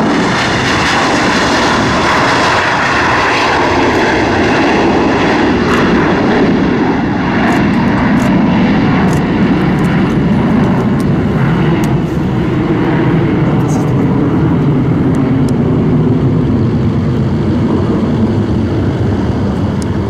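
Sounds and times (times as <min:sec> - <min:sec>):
deep rumble: 0:00.0 - 0:20.0
jet engines at takeoff: 0:00.0 - 0:20.0.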